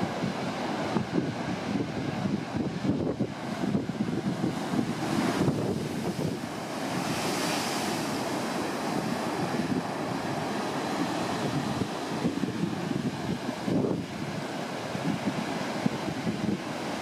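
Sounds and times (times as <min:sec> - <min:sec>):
ocean surf breaking on rocks: 0:00.0 - 0:17.0
wind buffeting microphone: 0:00.0 - 0:17.0.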